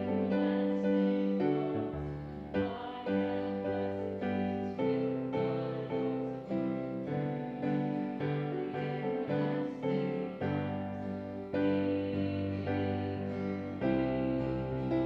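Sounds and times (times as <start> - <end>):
church keyboard chords: 0.0 - 15.0.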